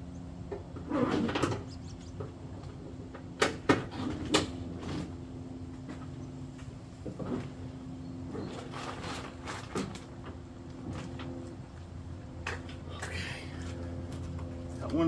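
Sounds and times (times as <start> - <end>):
steady low hum: 1.6 - 15.0.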